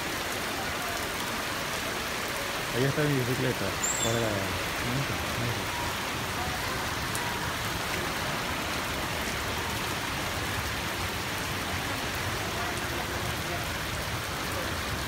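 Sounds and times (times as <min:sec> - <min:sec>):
heavy rain on asphalt: 0:00.0 - 0:15.0.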